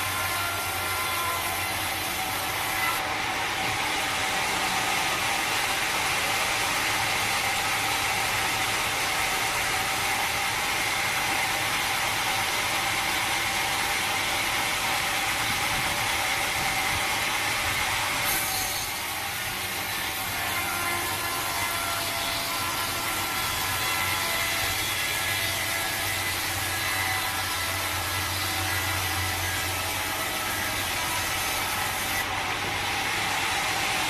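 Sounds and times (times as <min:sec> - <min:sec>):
sawmill machinery whirring: 0:00.0 - 0:34.0.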